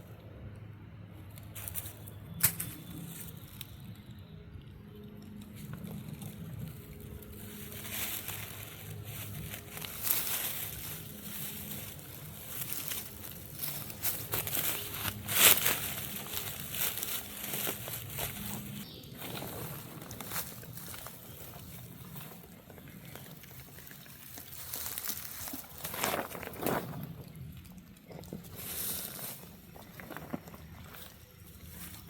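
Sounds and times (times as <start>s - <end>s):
rustling and crinkling: 1.3s - 4.2s, 4.9s - 32.0s.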